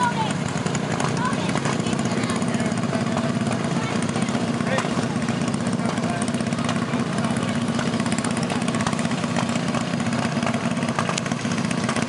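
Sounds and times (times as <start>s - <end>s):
small engines buzzing drone: 0.0s - 12.0s.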